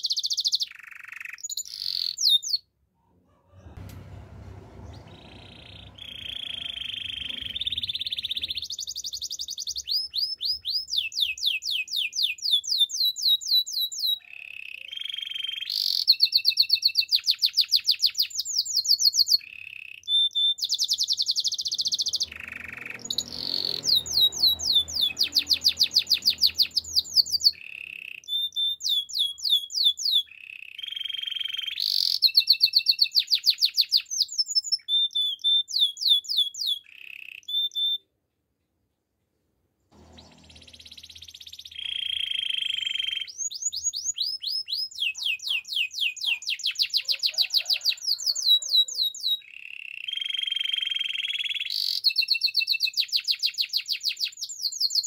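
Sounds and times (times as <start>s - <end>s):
canary singing fast trills: 0.0s - 2.7s, 4.9s - 38.1s, 40.0s - 55.0s.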